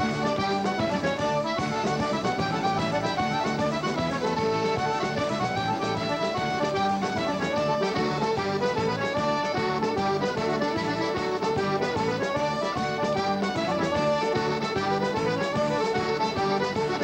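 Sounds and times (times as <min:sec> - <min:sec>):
band playing: 0:00.0 - 0:17.0
button accordion dance tune: 0:00.0 - 0:17.0.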